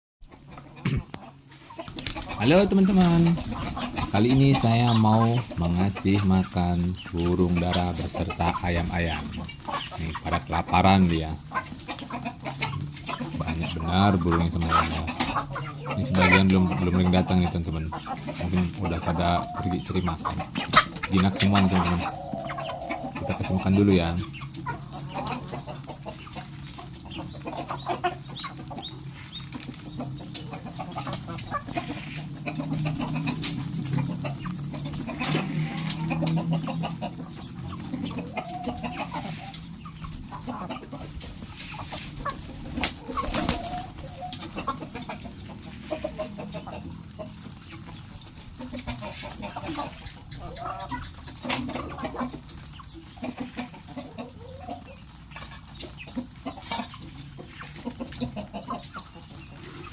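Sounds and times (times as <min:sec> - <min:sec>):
chickens clucking: 0:00.2 - 0:59.9.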